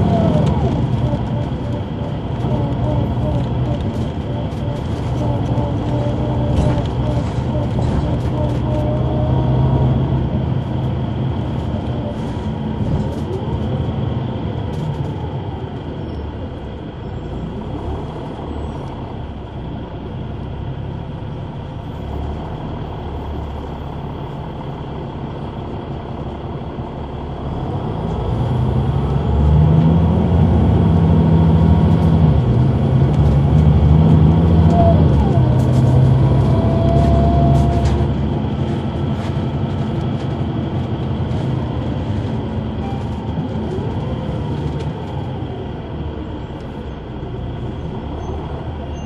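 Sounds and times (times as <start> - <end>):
bus diesel engine: 0.0 - 49.0.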